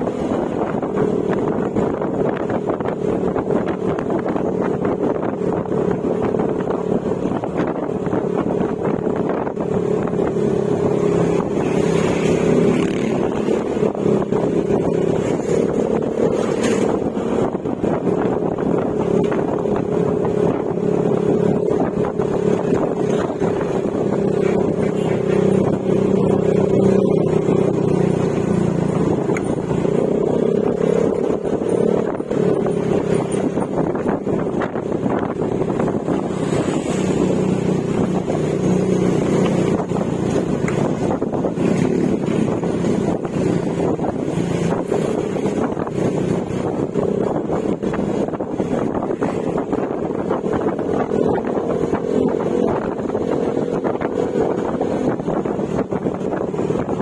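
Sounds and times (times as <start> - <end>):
scooter engine cruising: 0.0 - 57.0.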